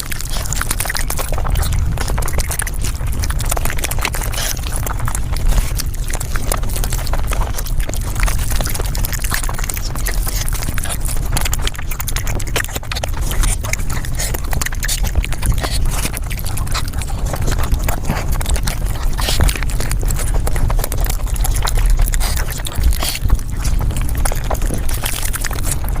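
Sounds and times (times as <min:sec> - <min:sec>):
low rumble: 0:00.0 - 0:26.0
sped-up chewing and crunching: 0:00.0 - 0:26.0.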